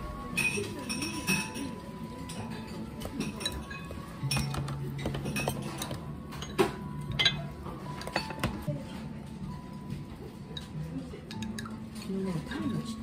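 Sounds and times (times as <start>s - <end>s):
tableware clinking: 0.2s - 8.7s, 9.6s - 13.0s.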